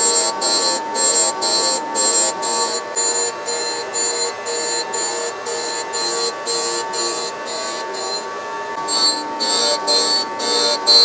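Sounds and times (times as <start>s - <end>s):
grinder wheel whining: 0.0s - 11.0s.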